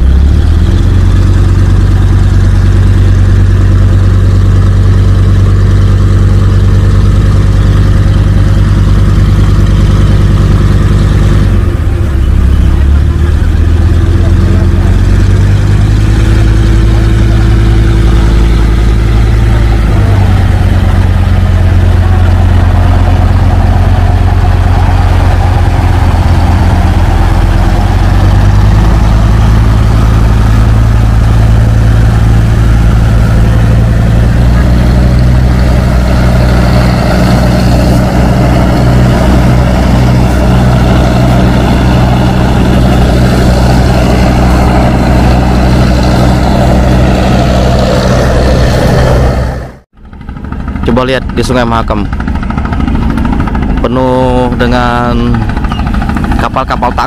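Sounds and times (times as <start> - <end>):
boat diesel engines droning: 0.0 - 57.0.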